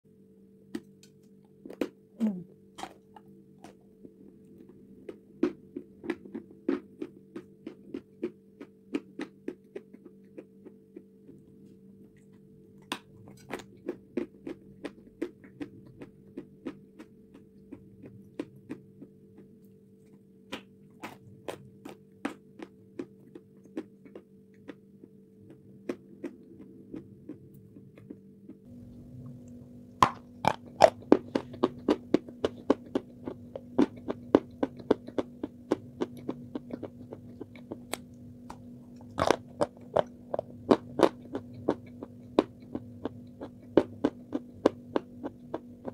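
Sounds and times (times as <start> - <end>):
steady electrical hum: 0.1 - 45.9
crunching and chewing: 2.7 - 45.9.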